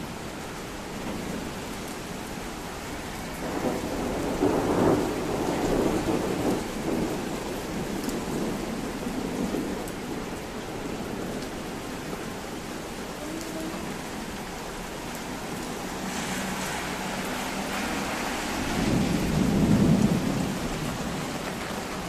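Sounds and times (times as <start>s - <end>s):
steady rain falling: 0.0s - 22.0s
thunder rumbling: 3.3s - 22.0s.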